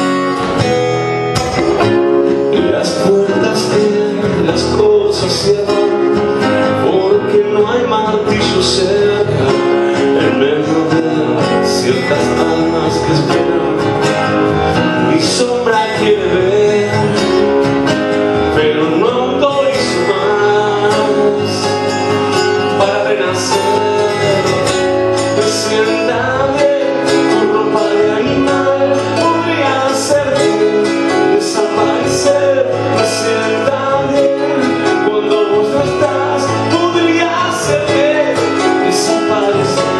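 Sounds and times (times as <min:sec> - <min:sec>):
strummed acoustic guitar: 0:00.0 - 0:39.9
man singing: 0:01.3 - 0:39.9.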